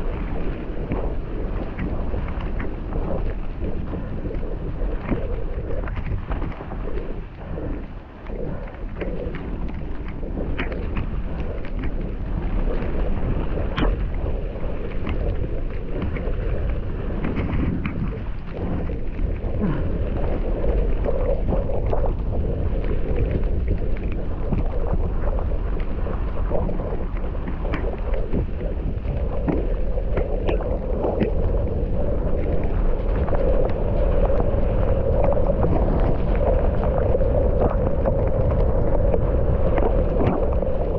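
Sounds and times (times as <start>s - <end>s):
wind buffeting microphone: 0.0s - 40.9s
bike tyres rolling on dirt: 6.8s - 40.9s.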